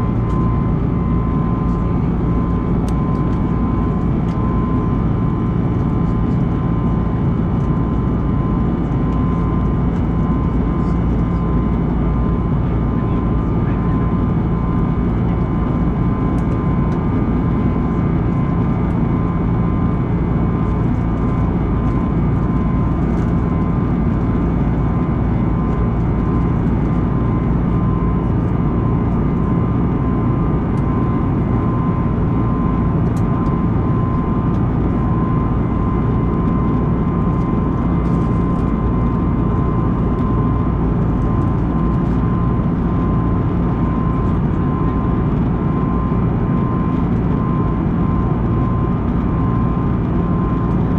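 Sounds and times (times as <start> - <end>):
engine and airflow rush: 0.0 - 50.9.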